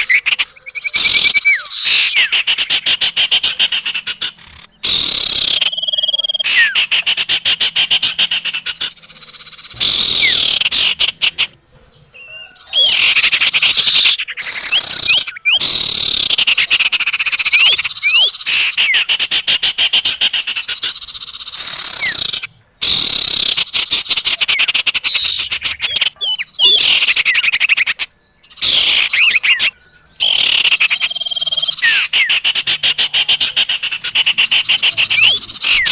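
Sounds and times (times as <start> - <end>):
sharp whistled bird notes: 0.0 - 11.6, 12.2 - 35.9
buzzing bird trills: 0.0 - 35.9.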